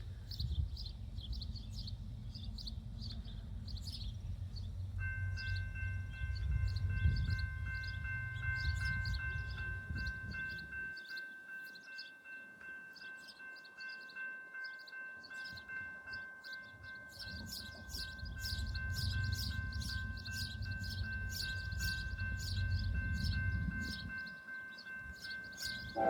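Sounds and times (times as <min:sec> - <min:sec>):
train rumble: 0:00.0 - 0:11.0, 0:15.3 - 0:26.0
crossing warning bell ringing: 0:04.3 - 0:26.0.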